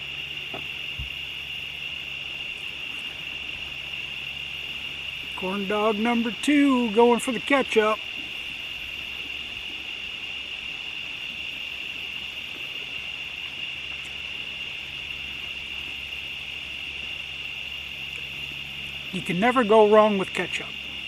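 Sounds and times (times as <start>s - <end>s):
crickets chirping: 0.0s - 21.0s
faint low hum: 0.0s - 21.0s.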